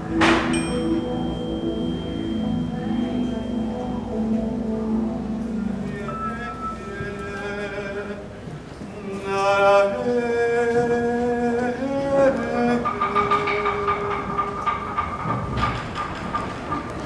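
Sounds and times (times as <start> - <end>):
wordless sung notes: 0.0 - 14.8.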